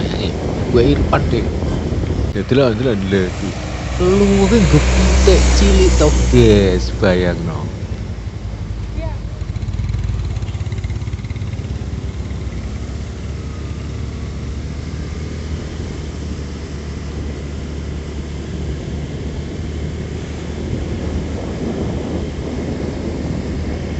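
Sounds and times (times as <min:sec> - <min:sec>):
motorcycle engine humming: 0:00.0 - 0:23.9.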